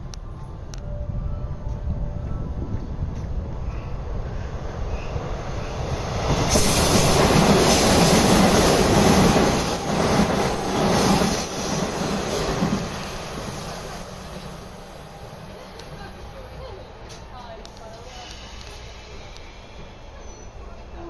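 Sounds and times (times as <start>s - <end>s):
train rumbling past on rails: 0.0s - 21.0s.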